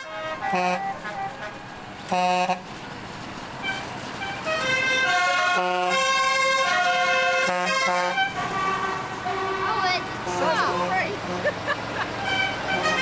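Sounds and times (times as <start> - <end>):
multi-tone vehicle horn: 0.0 - 2.7, 3.6 - 13.0.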